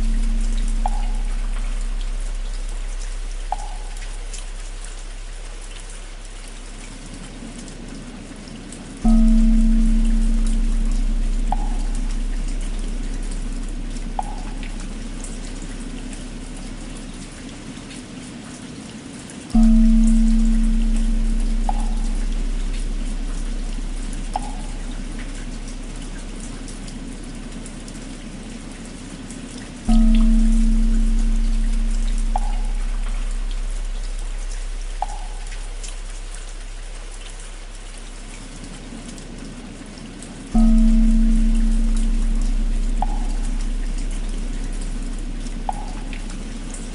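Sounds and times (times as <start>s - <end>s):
deep bell humming: 0.0s - 6.8s, 9.0s - 17.4s, 19.5s - 38.3s, 40.5s - 46.9s
steady rain: 0.0s - 46.9s.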